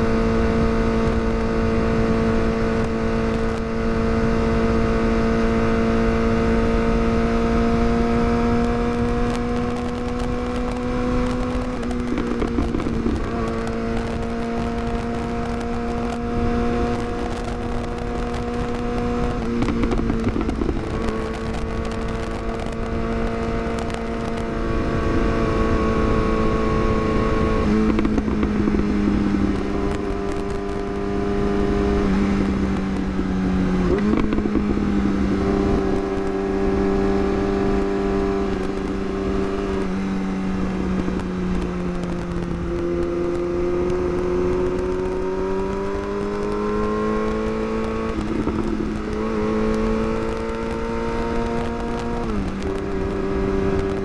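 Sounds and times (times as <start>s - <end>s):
motorcycle engine at high rpm: 0.0s - 54.0s
wind rush on microphone: 0.0s - 54.0s.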